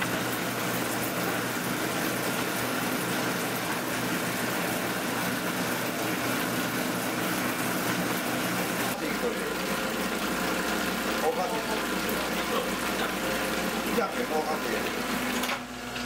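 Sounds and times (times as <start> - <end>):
dough-sheeting machine humming: 0.0 - 16.0.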